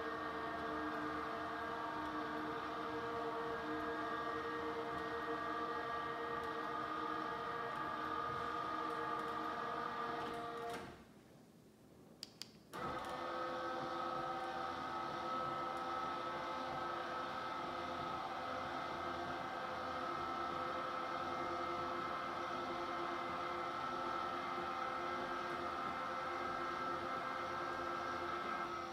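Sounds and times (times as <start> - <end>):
roller shade motors whirring: 0.0 - 11.1, 12.7 - 28.9.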